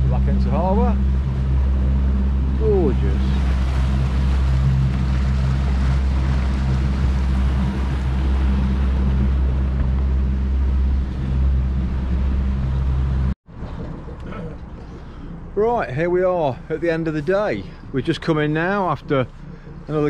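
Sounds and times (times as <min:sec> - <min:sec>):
motorboat engine running: 0:00.0 - 0:20.0
rushing water: 0:00.0 - 0:20.0
wind: 0:00.0 - 0:20.0.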